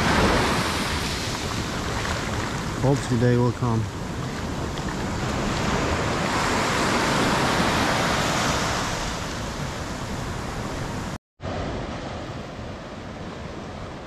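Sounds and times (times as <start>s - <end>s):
ocean wave breaking: 0.0s - 14.0s.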